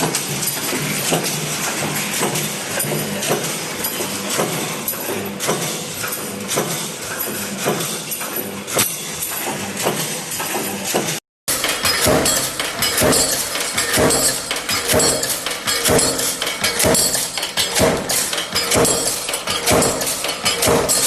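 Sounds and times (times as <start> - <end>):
metal clinking impacts: 0.0 - 21.0.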